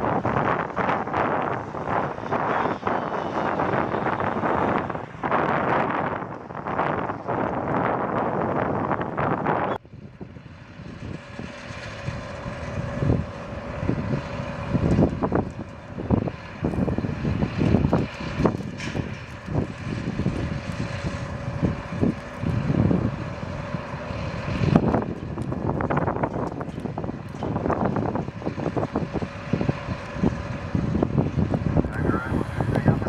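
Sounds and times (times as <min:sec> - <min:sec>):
airliner engines whining: 0:00.0 - 0:33.0
wind buffeting microphone: 0:00.0 - 0:33.0.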